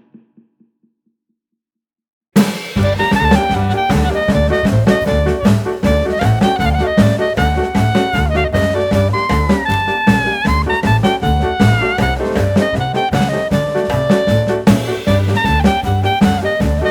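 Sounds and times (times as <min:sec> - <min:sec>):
jazz swing music: 0:02.4 - 0:16.9.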